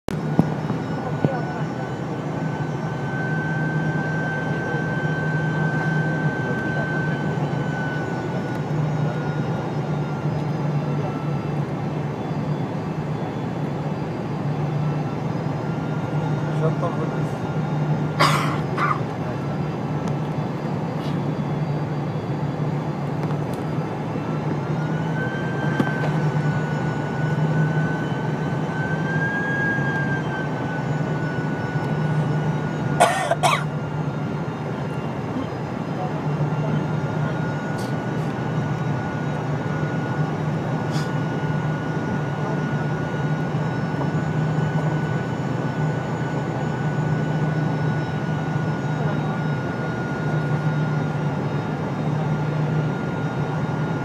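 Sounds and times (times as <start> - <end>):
constant engine whine: 0.0 - 54.0
airliner cabin drone: 0.1 - 54.0.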